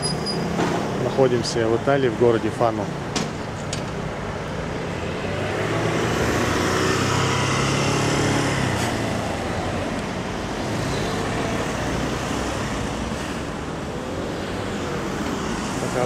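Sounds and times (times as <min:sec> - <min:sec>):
road traffic noise: 0:00.0 - 0:16.0
heavy truck engine: 0:03.0 - 0:16.0.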